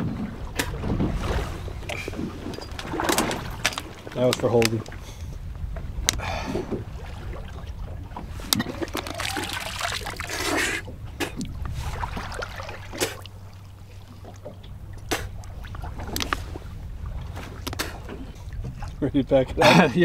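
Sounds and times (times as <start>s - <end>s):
water sloshing: 0.0s - 19.6s
boat engine low rumble: 0.0s - 20.0s.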